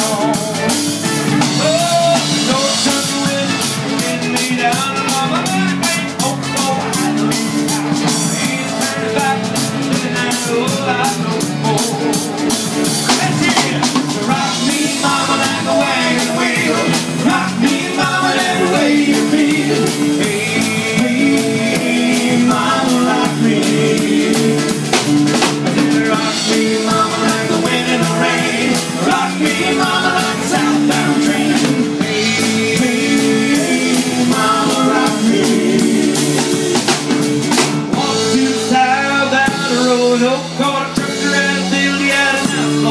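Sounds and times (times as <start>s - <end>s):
drum kit beat: 0.0s - 42.9s
guitar: 0.0s - 42.9s
keyboard: 0.0s - 42.9s.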